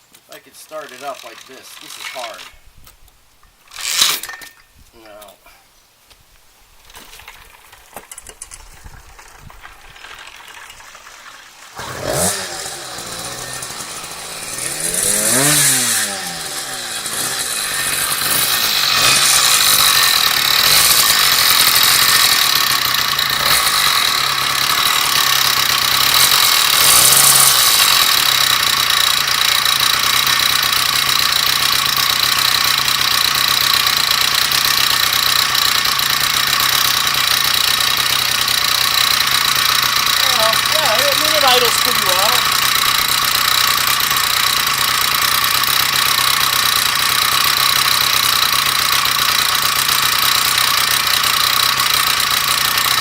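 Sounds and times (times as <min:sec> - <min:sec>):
two-stroke engine revving and idling: 0:09.9 - 0:53.0.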